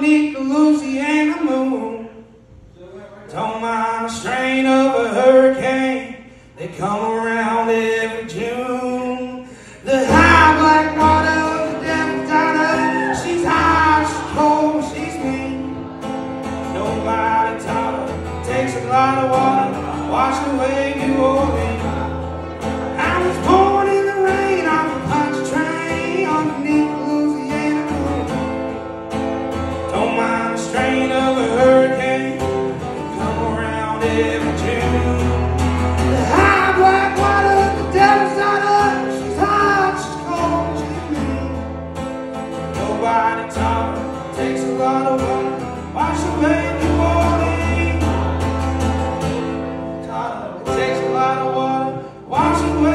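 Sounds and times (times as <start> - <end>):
strummed acoustic guitar: 0.0 - 2.3, 3.3 - 52.9
man singing: 0.0 - 28.8, 29.5 - 52.9
band playing country music: 6.8 - 52.9.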